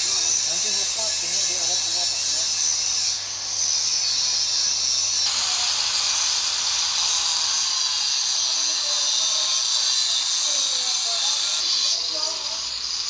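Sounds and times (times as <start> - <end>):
angle grinder grinding steel: 0.0 - 13.0.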